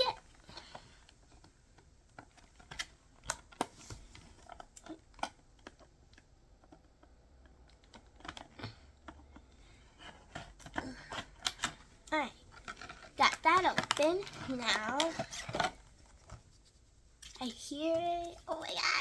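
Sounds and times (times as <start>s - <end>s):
toy packaging clicking and crackling: 0.0s - 9.4s, 10.0s - 16.4s.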